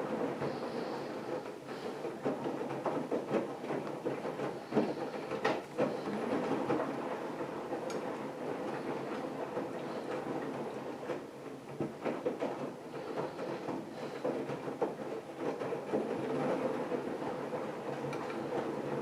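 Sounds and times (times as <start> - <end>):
washing machine churning: 0.0 - 19.0
knocks and clatter: 0.4 - 19.0.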